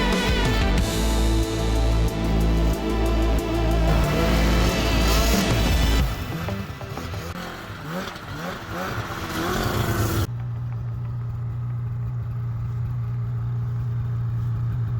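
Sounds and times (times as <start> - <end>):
snowmobile engine revving and idling: 0.0 - 14.9.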